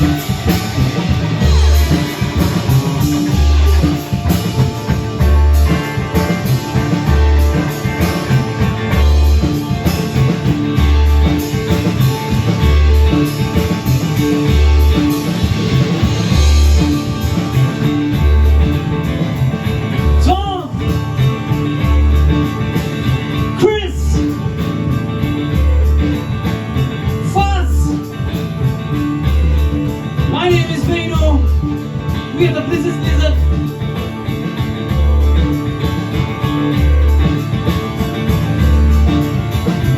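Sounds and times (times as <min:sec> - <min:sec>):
electric guitar bending notes: 0:00.0 - 0:39.9
live rock blues band: 0:00.0 - 0:39.9.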